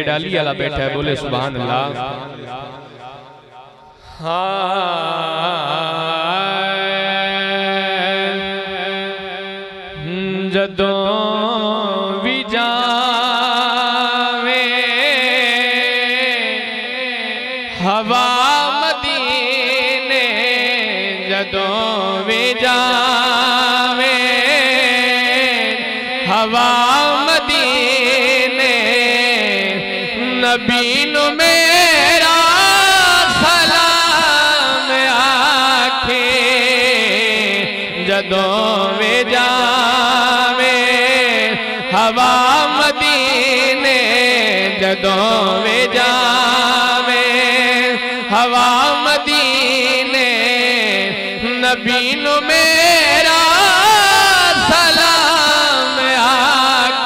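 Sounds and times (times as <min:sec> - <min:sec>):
man singing into microphone: 0:00.0 - 0:57.0.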